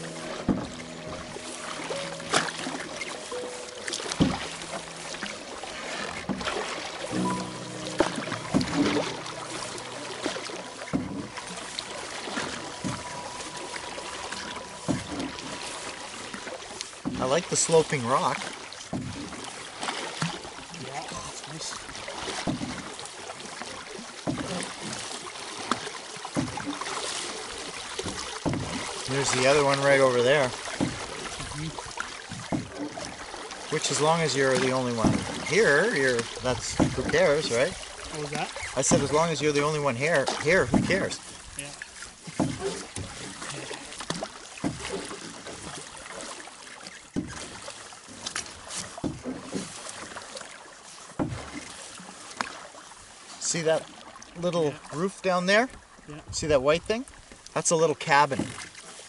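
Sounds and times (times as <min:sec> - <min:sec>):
paddle strokes in water: 0:00.0 - 0:59.0
water lapping against metal hull: 0:00.0 - 0:59.0
sharp knocks on canoe: 0:00.1 - 0:17.4, 0:18.4 - 0:20.5, 0:22.1 - 0:23.5, 0:24.2 - 0:37.8, 0:38.5 - 0:41.3, 0:41.9 - 0:52.7, 0:58.3 - 0:58.8.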